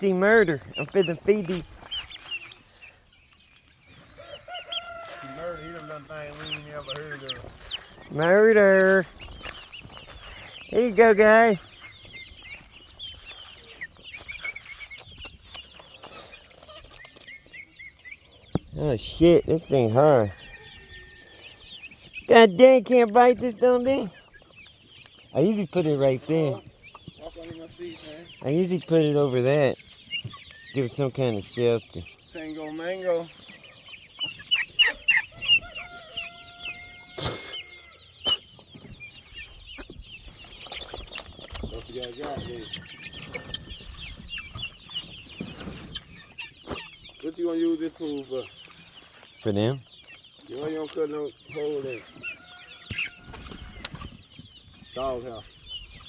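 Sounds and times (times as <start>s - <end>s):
chickens chirping: 0.0s - 56.0s.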